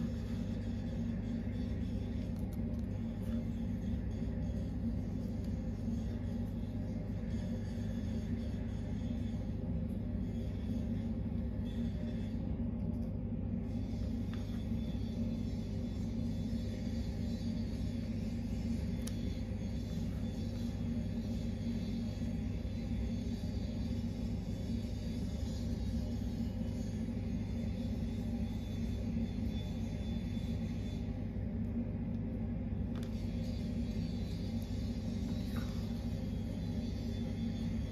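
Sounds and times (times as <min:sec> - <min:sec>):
steady low drone: 0:00.0 - 0:37.9
steady low rumble: 0:00.0 - 0:37.9.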